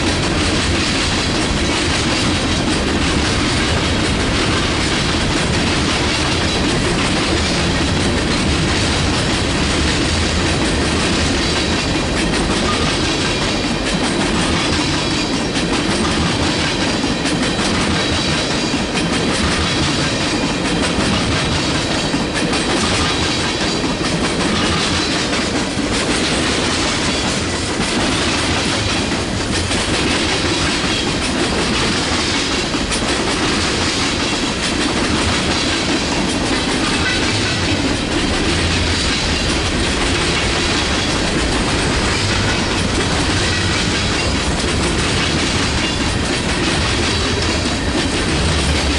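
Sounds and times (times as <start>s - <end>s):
freight train rumbling and rattling: 0.0s - 48.9s.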